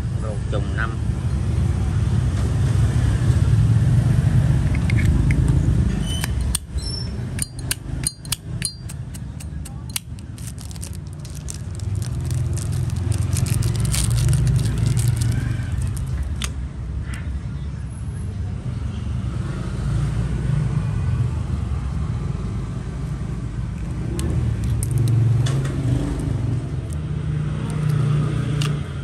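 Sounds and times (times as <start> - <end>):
low rumble of road traffic: 0.0 - 29.0.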